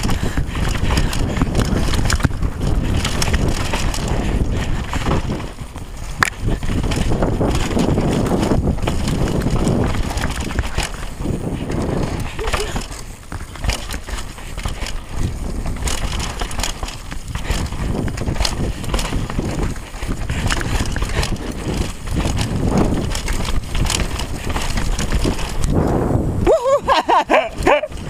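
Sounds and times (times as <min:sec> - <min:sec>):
bike chain and frame rattling: 0:00.0 - 0:28.0
tyres on dirt trail: 0:00.0 - 0:28.0
wind on microphone: 0:00.0 - 0:28.0.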